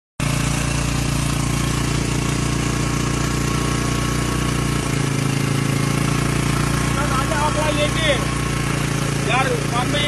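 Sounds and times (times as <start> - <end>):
boat engine idling: 0.2 - 10.0.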